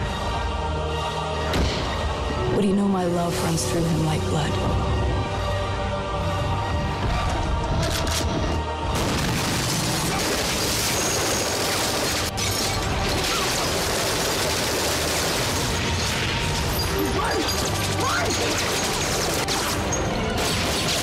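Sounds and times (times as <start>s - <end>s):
loud dense trailer music: 0.0s - 21.0s.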